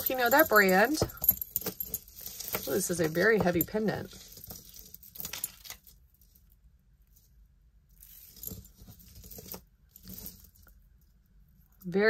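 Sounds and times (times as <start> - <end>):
beaded necklace clinking: 0.0 - 6.6, 7.9 - 12.0.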